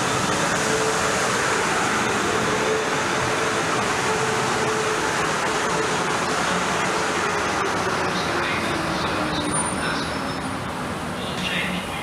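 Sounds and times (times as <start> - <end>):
train wheel and running noise: 0.0 - 12.0.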